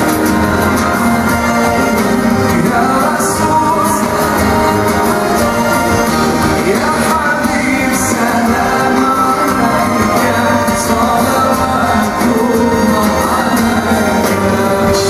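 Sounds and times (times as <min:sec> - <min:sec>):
live band playing pop: 0:00.0 - 0:15.0
man singing: 0:00.0 - 0:15.0.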